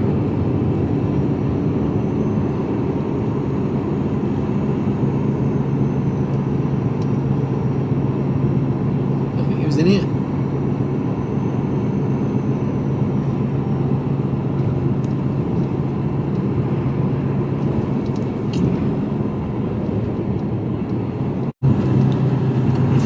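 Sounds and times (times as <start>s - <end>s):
diesel engine hum: 0.0s - 23.0s
road and tyre noise: 0.0s - 23.0s.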